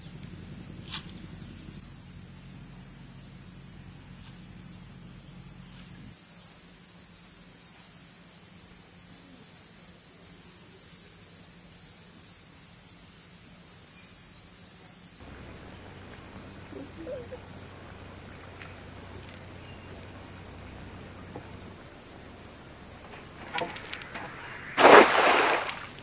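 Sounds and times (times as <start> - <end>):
high pulsing insect chirp: 0.0 - 26.0
insects trilling: 0.0 - 26.0
low steady hum: 0.0 - 26.0.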